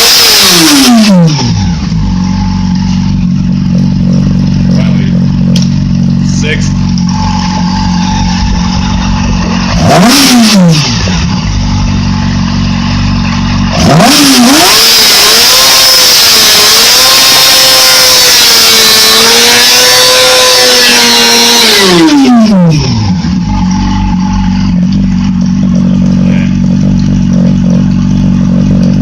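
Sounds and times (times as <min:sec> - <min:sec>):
motorcycle engine idling and revving: 0:00.0 - 0:29.0.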